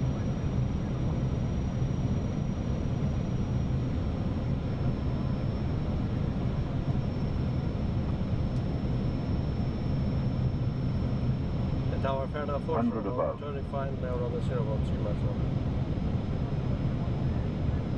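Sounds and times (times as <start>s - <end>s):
airflow and engine rumble: 0.0s - 17.9s.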